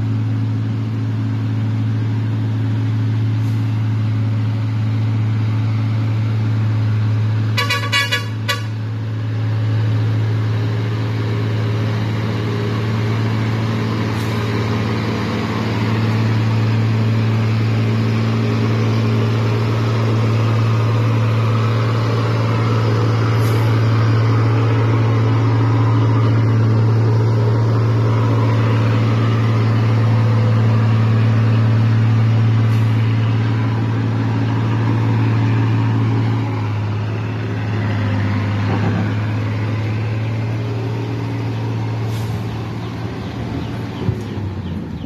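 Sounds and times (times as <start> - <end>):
diesel truck driving past: 0.0 - 45.0.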